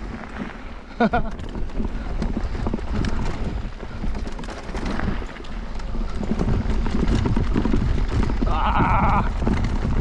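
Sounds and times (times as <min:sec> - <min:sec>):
bike knocks and rattles: 0:00.0 - 0:10.0
bike tyres over dirt and rock: 0:00.0 - 0:10.0.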